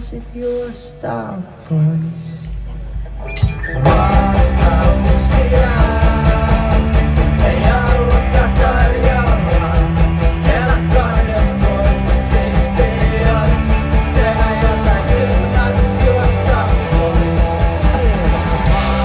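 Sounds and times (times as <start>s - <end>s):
rock band playing: 3.1s - 19.0s.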